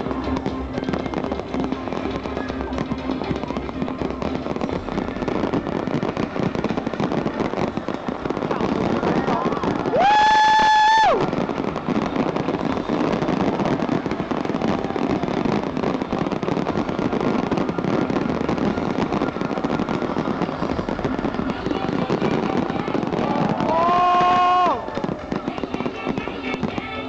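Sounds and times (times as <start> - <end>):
fireworks crackling and popping: 0.0 - 27.0
murmur of large crowd: 0.0 - 27.0.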